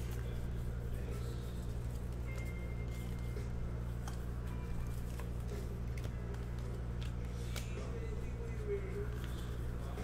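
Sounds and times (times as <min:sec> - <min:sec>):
faint background music: 0:00.0 - 0:10.0
steady low hum: 0:00.0 - 0:10.0.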